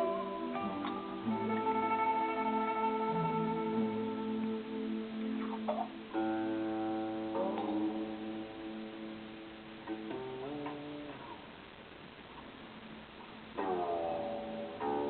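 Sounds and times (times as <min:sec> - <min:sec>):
slow instrumental music: 0:00.0 - 0:11.4, 0:13.6 - 0:15.0.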